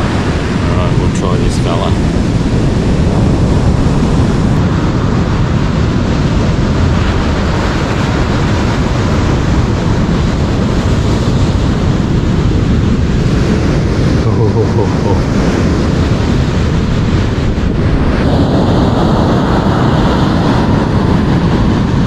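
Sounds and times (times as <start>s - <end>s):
surf breaking on beach: 0.0s - 22.0s
wind rumbling on microphone: 0.0s - 22.0s.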